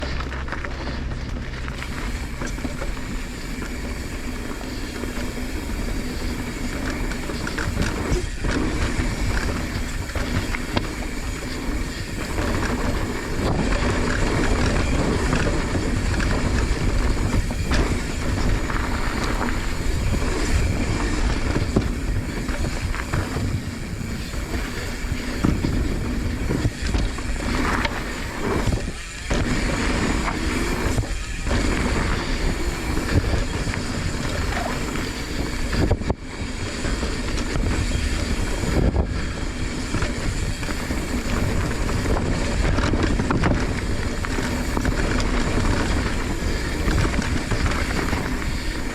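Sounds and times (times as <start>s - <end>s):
bike rattling: 0.0s - 48.9s
tyres on dirt: 0.0s - 48.9s
wind rushing over microphone: 0.0s - 48.9s.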